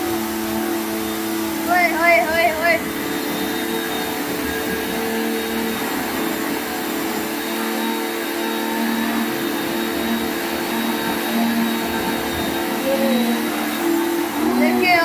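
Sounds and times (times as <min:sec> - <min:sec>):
pressure washer motor hum: 0:00.0 - 0:15.0
water spraying hiss: 0:00.0 - 0:15.0.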